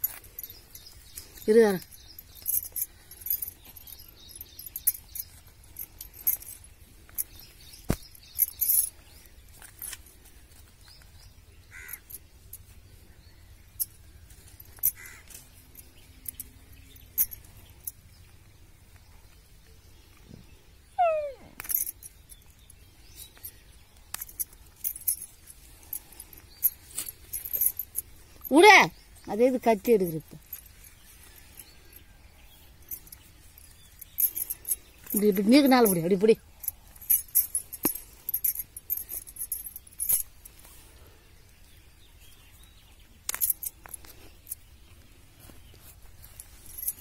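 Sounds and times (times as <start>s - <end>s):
glass bangles clicking and jingling: 0.0s - 20.1s, 21.0s - 40.8s, 41.6s - 47.0s.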